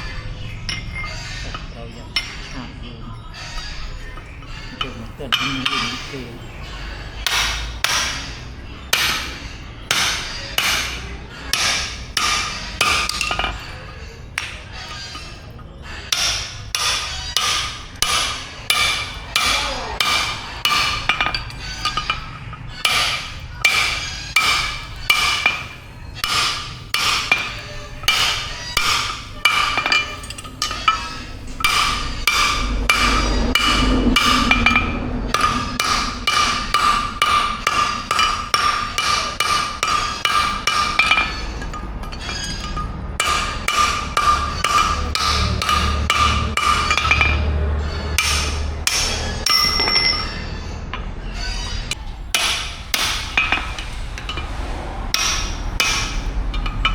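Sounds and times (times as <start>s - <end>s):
hammer striking anvil: 4.0s - 50.4s, 51.9s - 56.9s.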